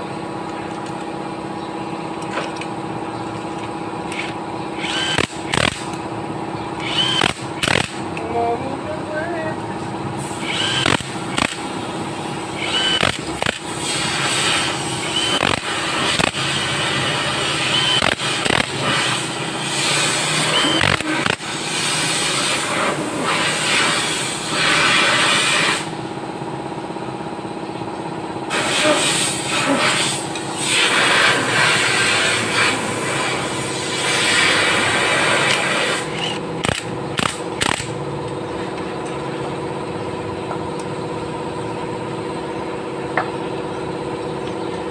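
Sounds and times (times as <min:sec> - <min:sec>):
steady background hum: 0:00.0 - 0:44.9.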